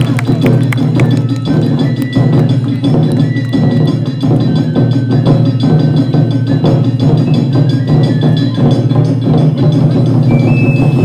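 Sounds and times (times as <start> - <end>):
taiko drums playing: 0.0 - 11.0
thin high melody: 0.6 - 11.0.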